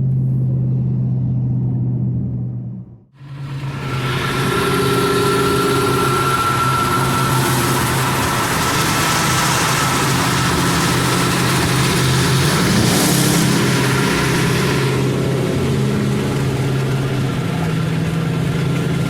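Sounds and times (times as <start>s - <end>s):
car engine cruising: 0.0s - 19.0s
road and wind noise: 0.0s - 19.0s.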